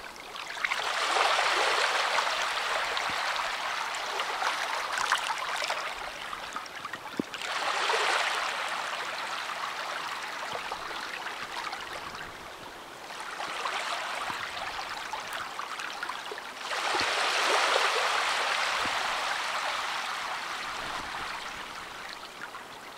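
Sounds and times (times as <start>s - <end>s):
small sea waves breaking: 0.3s - 22.5s.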